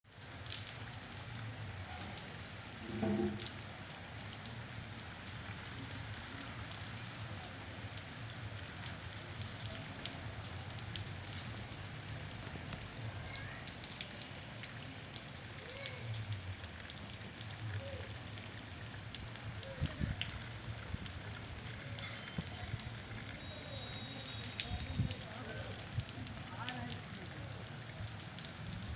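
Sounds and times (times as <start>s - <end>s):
rain drops pattering: 0.0s - 28.9s.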